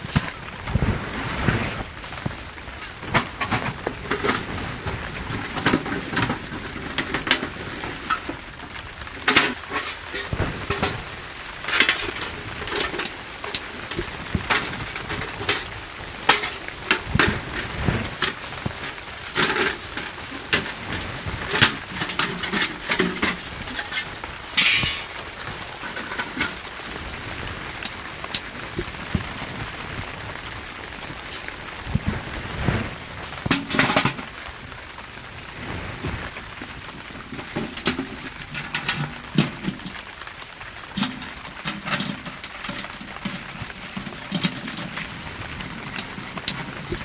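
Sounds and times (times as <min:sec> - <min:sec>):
knocks and clatter of handling: 0:00.0 - 0:34.8, 0:35.6 - 0:47.0
steady rain: 0:00.0 - 0:47.0.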